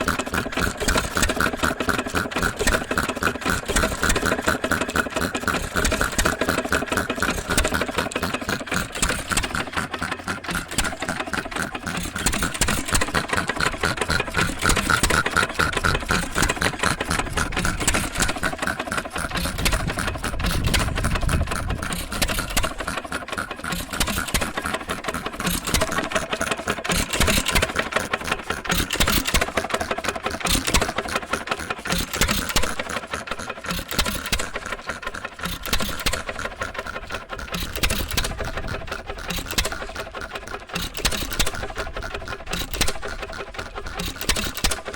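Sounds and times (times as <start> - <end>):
engine mechanical clatter: 0.0 - 44.9.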